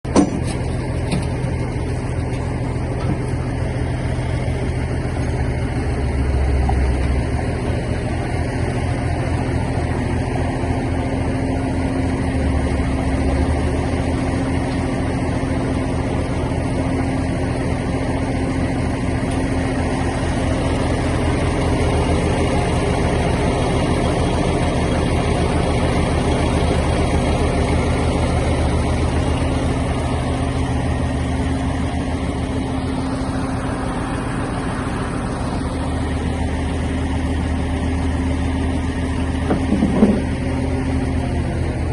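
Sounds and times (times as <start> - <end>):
heavy engine rumbling: 0.0 - 41.9.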